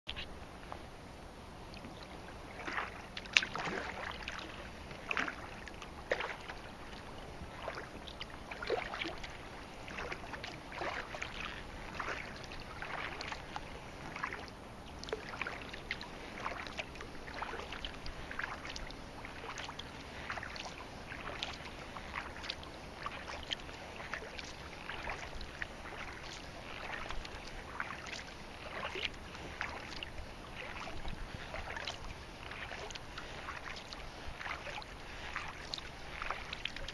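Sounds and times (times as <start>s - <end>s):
paddle splashing into water: 1.8s - 36.9s.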